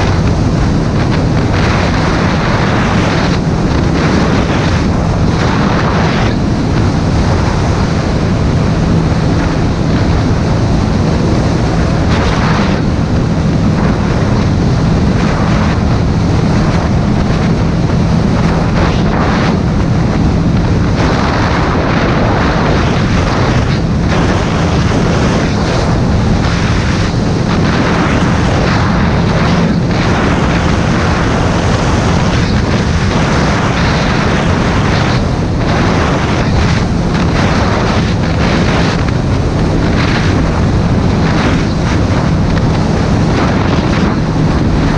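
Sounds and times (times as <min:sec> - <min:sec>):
motorcycle engine cruising: 0:00.0 - 0:44.9
wind buffeting microphone: 0:00.0 - 0:44.9.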